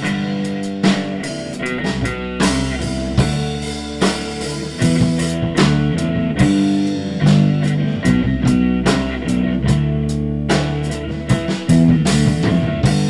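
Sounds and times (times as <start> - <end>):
drum hits: 0.0 - 13.0
live rock band playing: 0.0 - 13.0.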